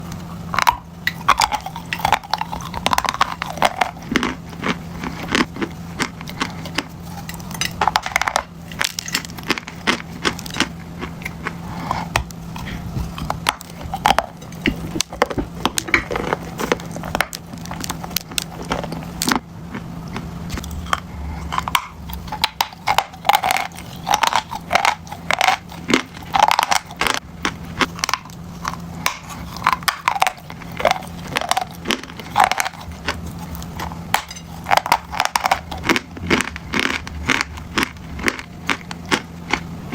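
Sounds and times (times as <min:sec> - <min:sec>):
crunchy chewing close up: 0:00.0 - 0:39.9
faint low hum: 0:00.0 - 0:39.9.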